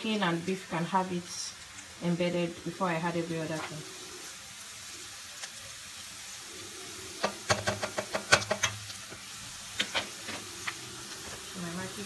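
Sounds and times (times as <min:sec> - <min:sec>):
meat and onions sizzling in a pot: 0:00.0 - 0:12.0.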